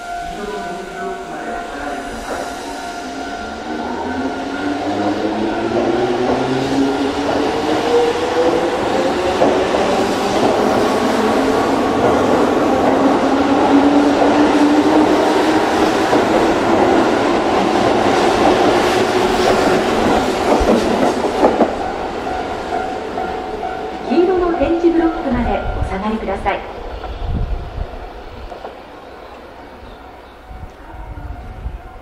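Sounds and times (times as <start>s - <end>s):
train wheels on rails: 0.0s - 30.9s.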